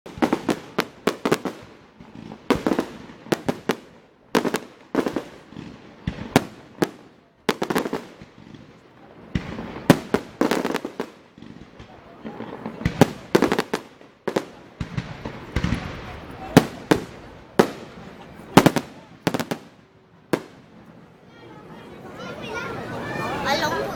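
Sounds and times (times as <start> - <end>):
fireworks banging: 0.0 - 22.3.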